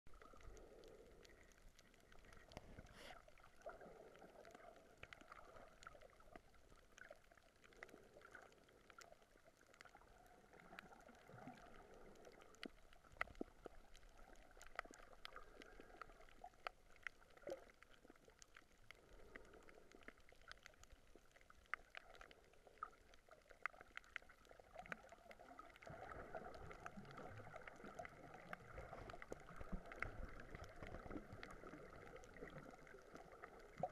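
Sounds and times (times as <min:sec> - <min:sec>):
underwater wash of water: 0:00.1 - 0:33.9.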